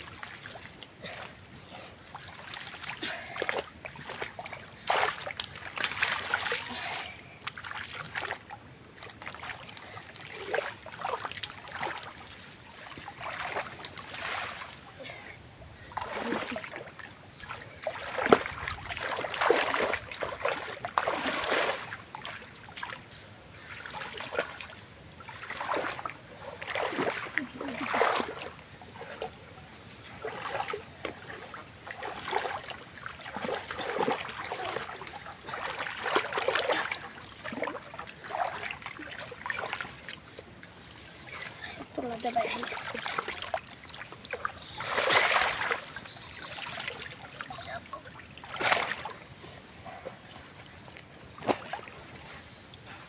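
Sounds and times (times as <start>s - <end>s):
water splashing and sloshing: 0.0s - 53.0s.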